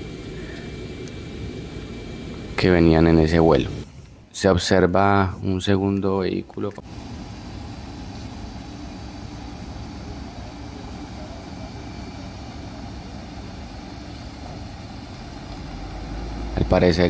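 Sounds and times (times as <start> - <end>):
engine rumble with high whine: 0.0 - 17.0.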